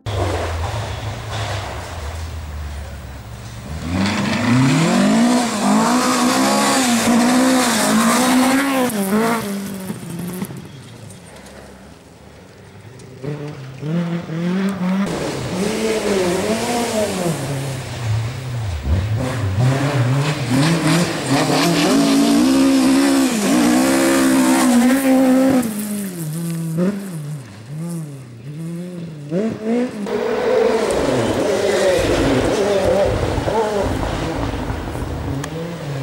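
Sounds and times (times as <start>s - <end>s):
rally car engine revving: 0.0s - 10.8s, 13.0s - 36.0s.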